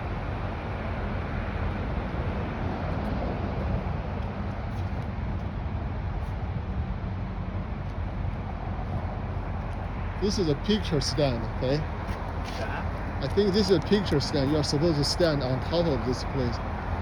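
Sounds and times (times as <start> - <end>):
freeway traffic rumble: 0.0 - 17.0
heavy trucks: 0.0 - 17.0.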